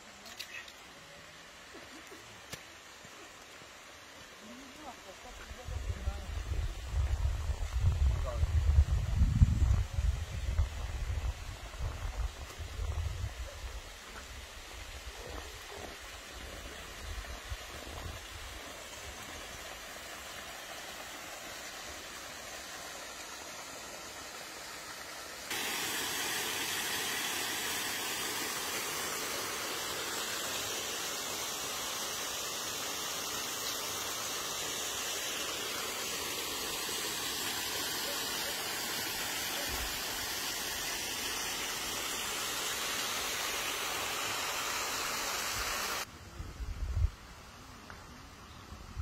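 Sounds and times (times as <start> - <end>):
flowing water rushing: 0.0 - 7.6, 10.7 - 46.1.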